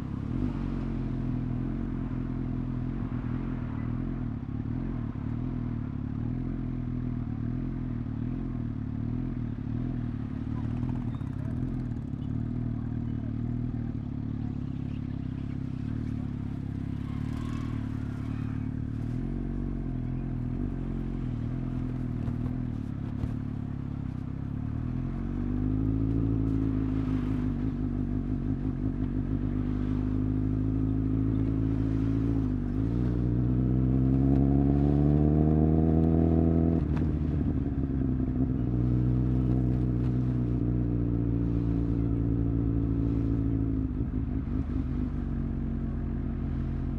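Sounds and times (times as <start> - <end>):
motorcycle engine revving: 9.1 - 46.9.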